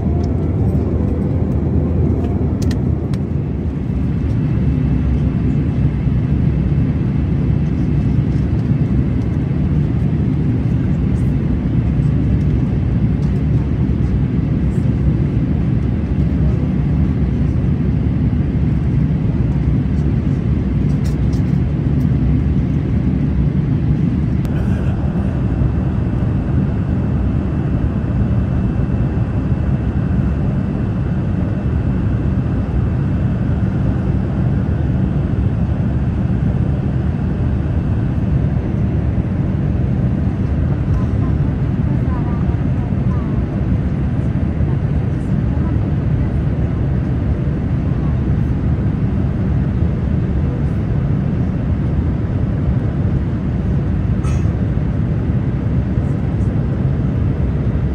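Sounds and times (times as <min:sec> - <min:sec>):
jet engine and airflow rush: 0:00.0 - 0:57.9.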